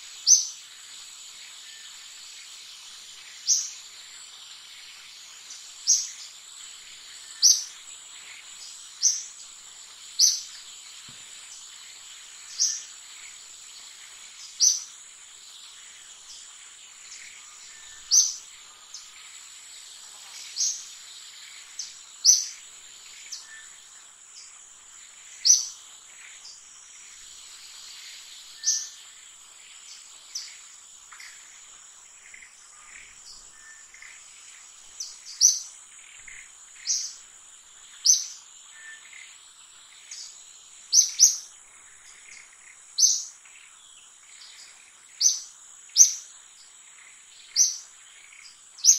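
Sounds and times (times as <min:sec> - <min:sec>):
high insect hum: 0:00.0 - 0:48.9.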